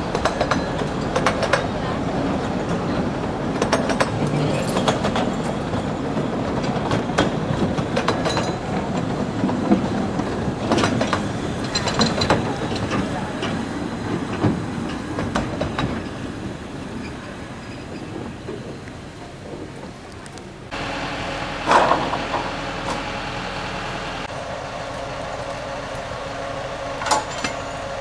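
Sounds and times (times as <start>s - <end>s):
carriage wheels rumbling on rails: 0.0s - 23.2s, 24.2s - 28.0s.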